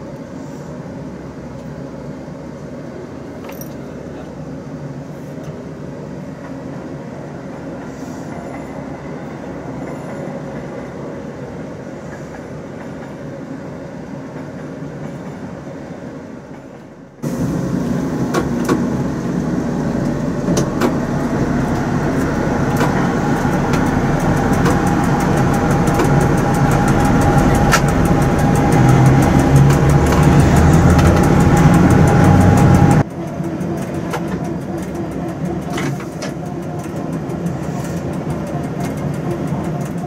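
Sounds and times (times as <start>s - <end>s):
locomotive running noise: 0.0s - 40.0s
train carriages rolling past: 1.1s - 40.0s.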